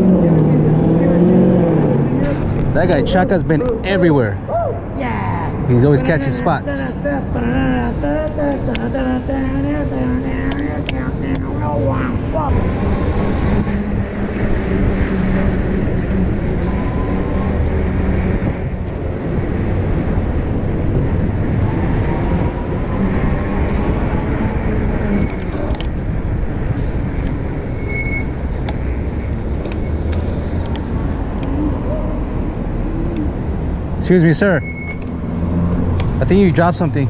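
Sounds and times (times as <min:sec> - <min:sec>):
traffic rumble: 0:00.0 - 0:37.0.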